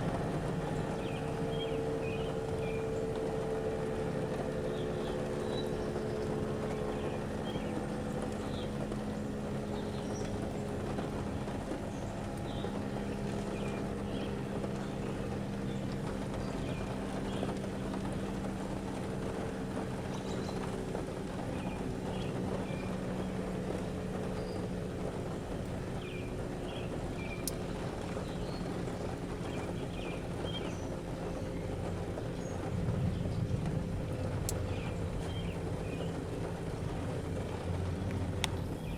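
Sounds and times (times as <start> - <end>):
distant warning sirens: 0.0 - 38.9
small birds chirping: 0.6 - 3.6, 4.6 - 18.5, 20.0 - 25.0, 25.9 - 38.9.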